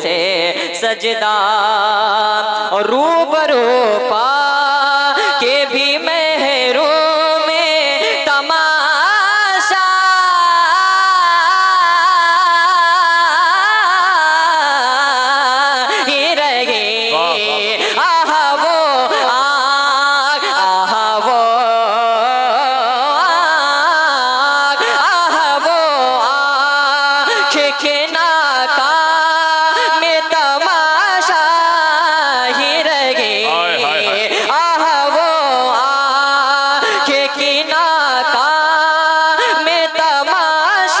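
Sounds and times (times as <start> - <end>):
boy singing into a microphone: 0.0 - 41.0.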